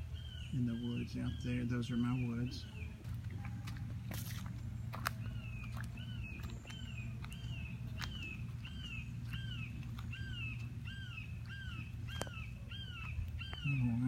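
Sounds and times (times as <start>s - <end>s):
bird calling: 0.0s - 14.0s
steady low rumble: 0.0s - 14.0s.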